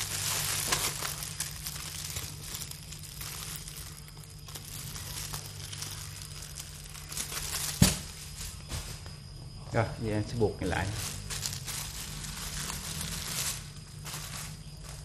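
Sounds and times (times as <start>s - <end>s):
plastic bag crinkling: 0.0s - 9.1s, 10.6s - 15.0s
steady low hum: 0.0s - 15.0s.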